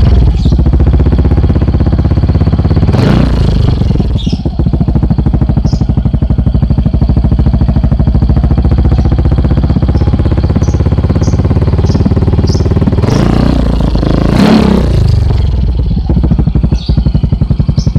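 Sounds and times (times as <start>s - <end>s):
scooter engine idling and revving: 0.0s - 17.9s.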